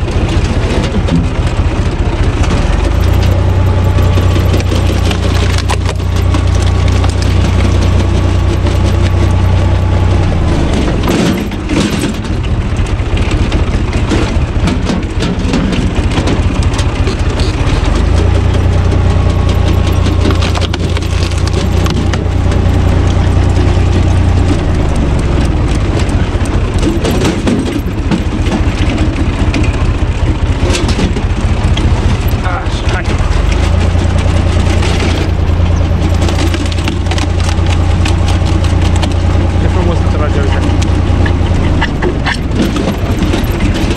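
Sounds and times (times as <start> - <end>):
tractor diesel engine running: 0.0 - 43.9
wood cracking: 0.0 - 43.9.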